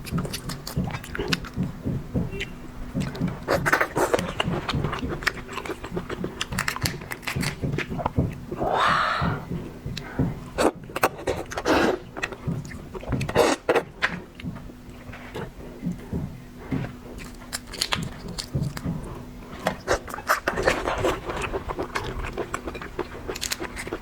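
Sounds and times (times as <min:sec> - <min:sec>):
faint steady hum: 0:00.0 - 0:24.0
seafood being chewed: 0:00.0 - 0:24.0.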